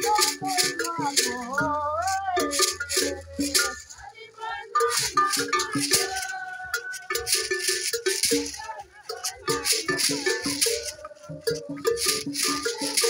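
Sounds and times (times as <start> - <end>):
beaded gourd rattles shaken: 0.0 - 13.0
pitched percussion notes: 0.0 - 13.0
women singing: 0.0 - 13.0.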